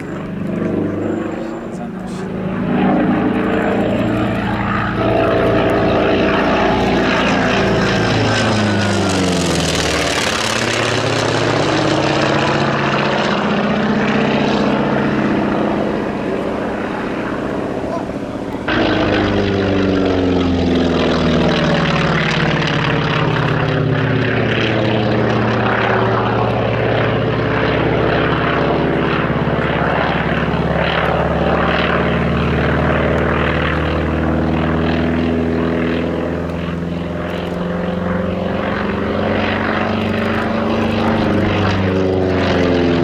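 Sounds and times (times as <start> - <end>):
propeller plane engine drone: 0.0 - 43.0.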